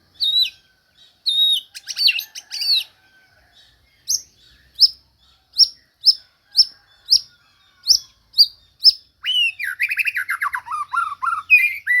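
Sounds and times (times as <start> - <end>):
bird singing whistles and trills: 0.1 - 2.9, 3.6 - 12.0.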